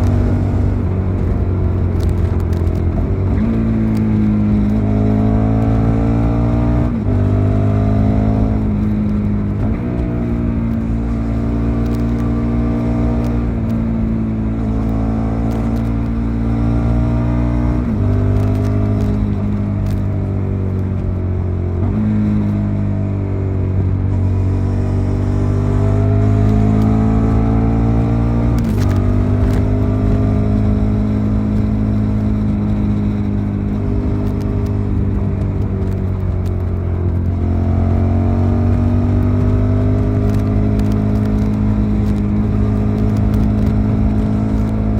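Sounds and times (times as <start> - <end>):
motorcycle engine while riding: 0.0 - 44.9.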